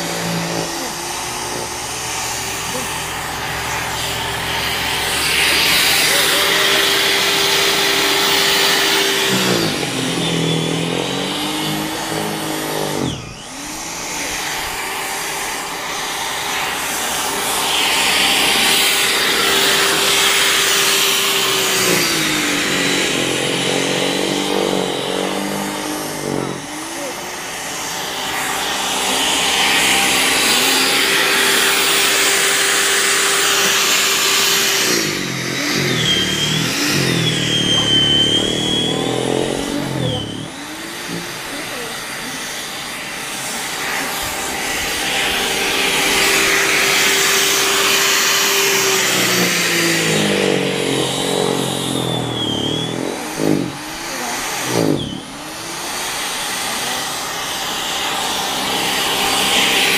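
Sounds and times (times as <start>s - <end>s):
electric snow thrower motor whine: 0.0s - 59.9s.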